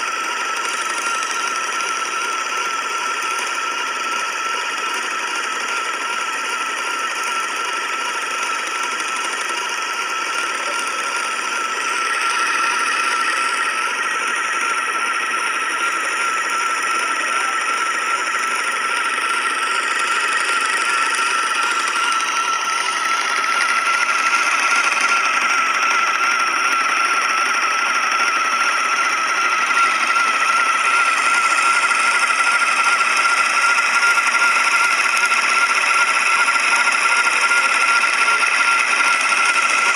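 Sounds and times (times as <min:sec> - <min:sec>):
electric spinner whining: 0:00.0 - 0:39.9.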